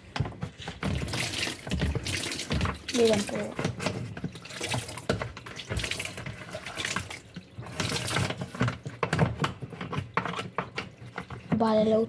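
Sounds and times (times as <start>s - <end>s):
water running from a tap: 0.8s - 12.0s.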